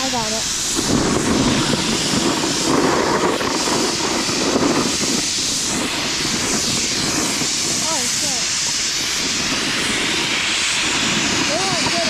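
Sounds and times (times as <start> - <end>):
snowboard scraping over snow: 0.0 - 12.0
wind on microphone: 0.0 - 12.0.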